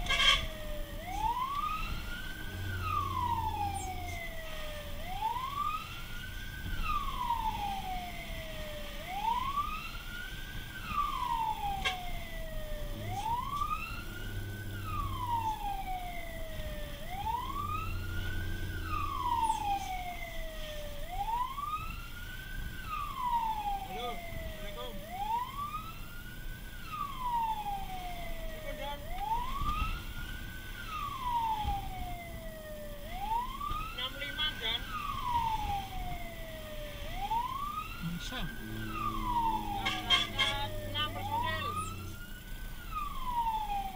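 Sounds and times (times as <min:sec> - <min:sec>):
fire truck wail siren: 0:00.0 - 0:43.9.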